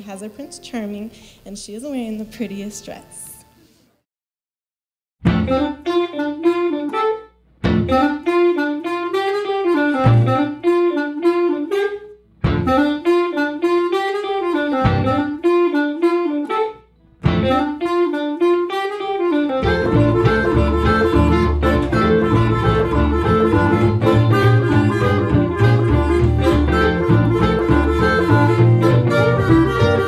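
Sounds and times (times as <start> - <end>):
instrumental melody: 5.2 - 30.0
musical accompaniment: 5.2 - 30.0.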